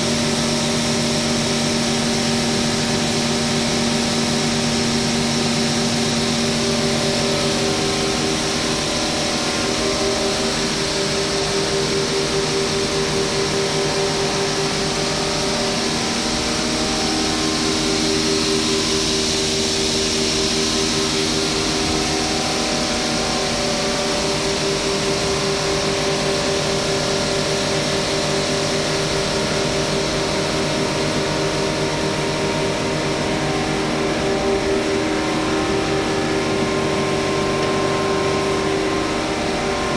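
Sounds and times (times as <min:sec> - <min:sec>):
mill machinery humming: 0:00.0 - 0:39.9.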